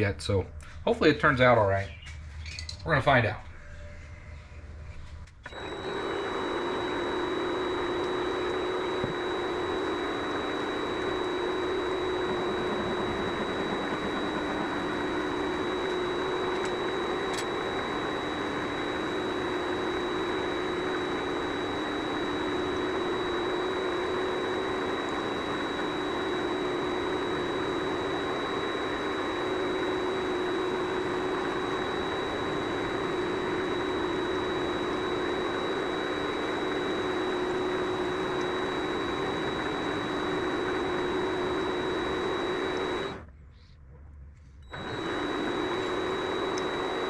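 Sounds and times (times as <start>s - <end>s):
lathe running with high whine: 5.5s - 43.3s, 44.7s - 47.0s.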